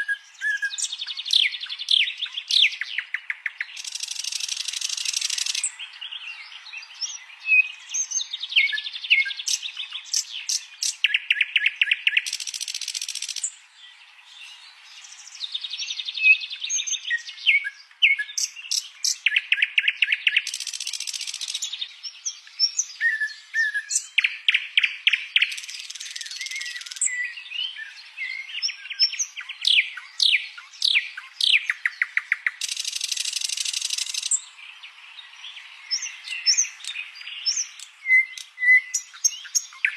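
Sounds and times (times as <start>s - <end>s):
songbird buzzing and trilling: 0.0s - 39.9s.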